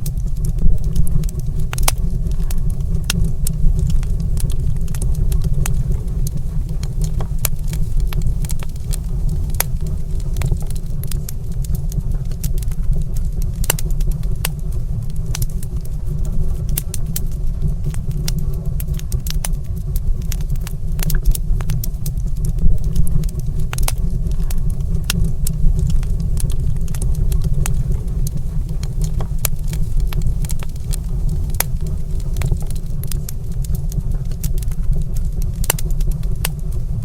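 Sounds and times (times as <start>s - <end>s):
low rumble of flame: 0.0s - 37.0s
wood fire crackling and popping: 0.0s - 37.0s.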